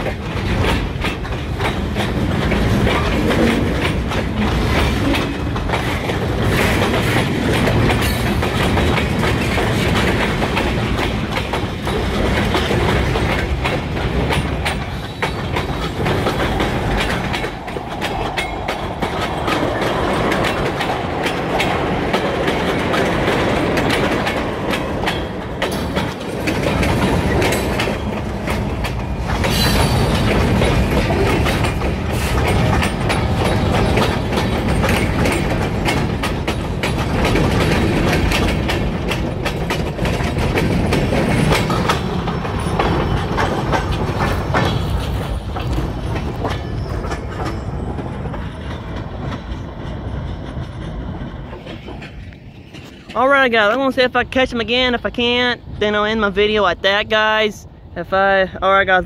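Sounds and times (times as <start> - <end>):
wheels clicking over rail joints: 0.0 - 56.1
steel wheels clattering on rail: 0.0 - 57.4.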